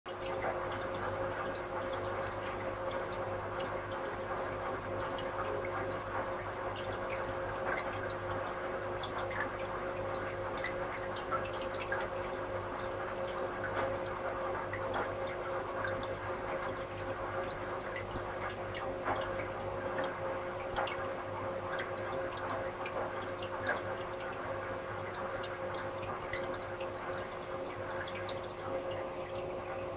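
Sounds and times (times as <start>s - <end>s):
aquarium water running: 0.1s - 29.9s
steady motor hum: 0.1s - 29.9s.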